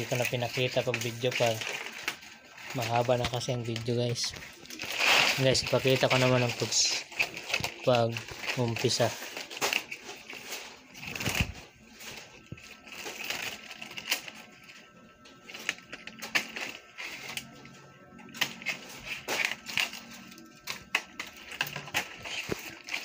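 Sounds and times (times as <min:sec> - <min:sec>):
palm leaves rustling and crackling: 0:00.0 - 0:23.0.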